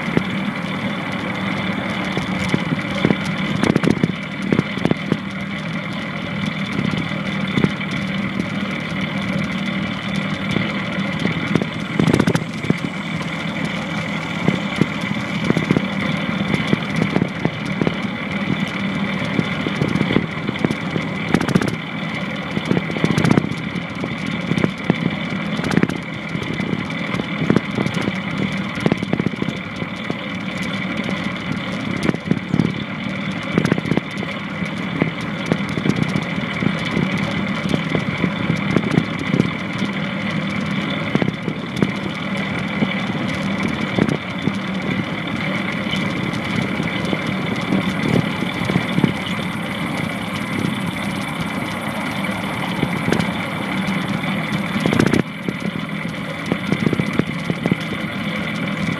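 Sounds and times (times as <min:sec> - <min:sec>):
longboard wheels rolling on pavement: 0:00.0 - 0:58.9.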